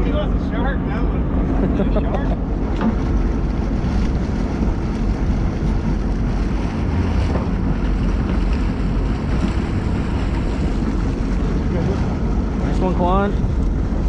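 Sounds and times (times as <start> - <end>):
water washing along boat hull: 0.0 - 14.0
wind rumble on microphone: 0.0 - 14.0.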